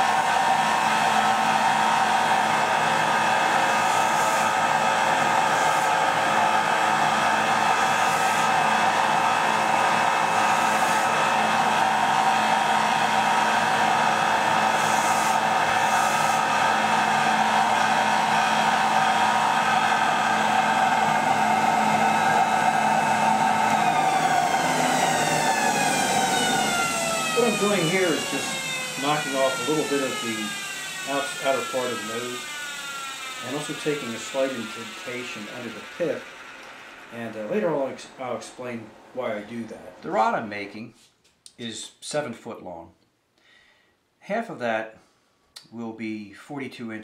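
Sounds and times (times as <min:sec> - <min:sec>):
belt sander running: 0:00.0 - 0:40.8.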